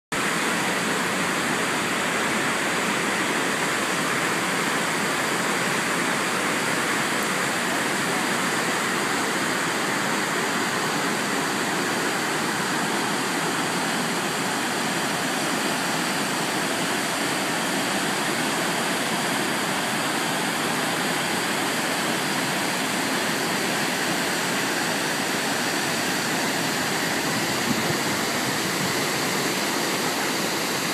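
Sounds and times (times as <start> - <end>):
churning river: 0.1 - 30.9
waterfall rushing: 0.2 - 30.9.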